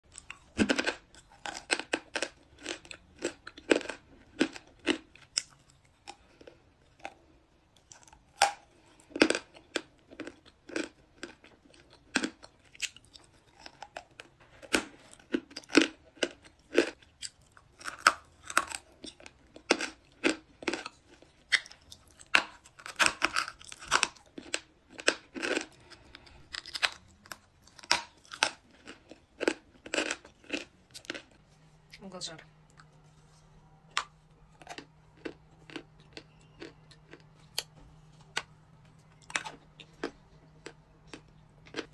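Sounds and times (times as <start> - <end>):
chalk being crunched and chewed: 0.1 - 7.2, 7.8 - 31.4, 32.6 - 38.5.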